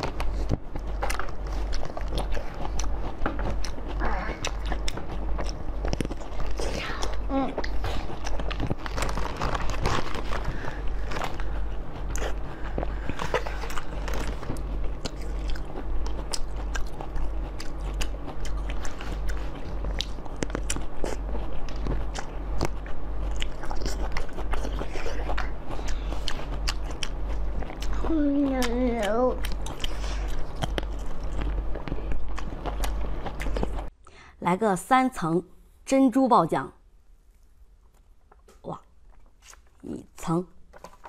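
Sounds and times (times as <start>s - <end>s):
cherries being bitten and chewed: 0.0s - 33.9s
low hum: 0.0s - 35.9s.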